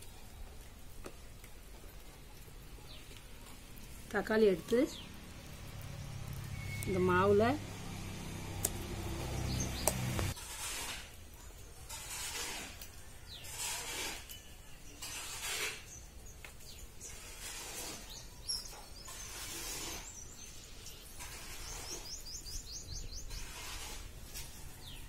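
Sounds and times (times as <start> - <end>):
small birds chirping: 0.0 - 10.4, 13.2 - 25.0.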